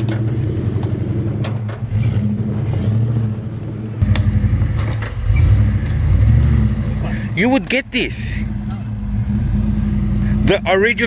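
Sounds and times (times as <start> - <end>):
engine droning under load: 0.0 - 11.0.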